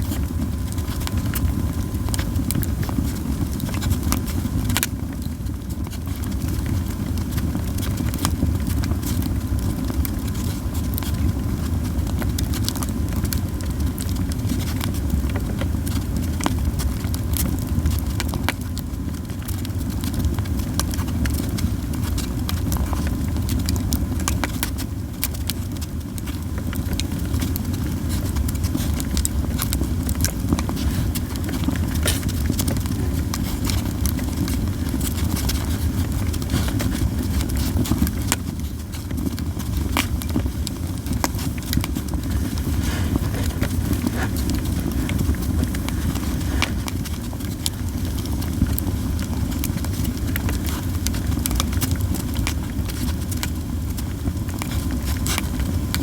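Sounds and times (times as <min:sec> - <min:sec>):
campfire crackling and popping: 0:00.0 - 0:56.0
low fire rumble: 0:00.0 - 0:56.0.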